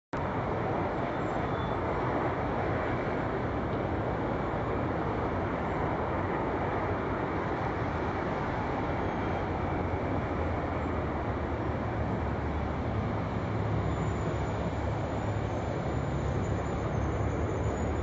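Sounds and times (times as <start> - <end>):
light rail train running: 0.2 - 18.0.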